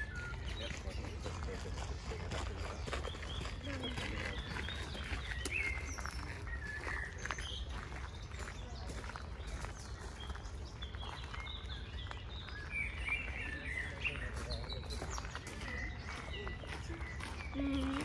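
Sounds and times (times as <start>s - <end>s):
songbirds chirping and warbling: 0.0s - 18.0s.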